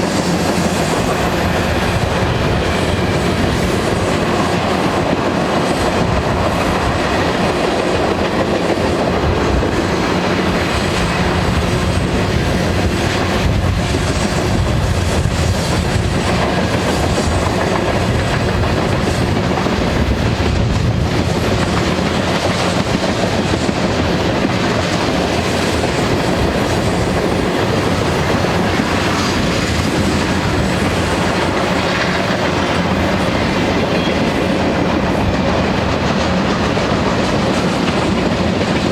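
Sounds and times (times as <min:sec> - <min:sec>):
steel wheels rolling on rails: 0:00.0 - 0:38.9.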